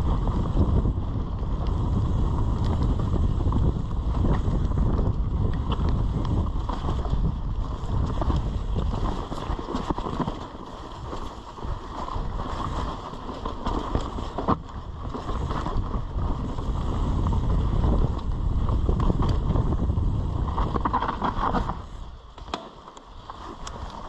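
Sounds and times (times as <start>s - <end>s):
wind buffeting microphone: 0.0s - 22.3s
bike rattling and knocking: 0.0s - 24.0s
tyres rolling on dirt: 0.0s - 24.0s.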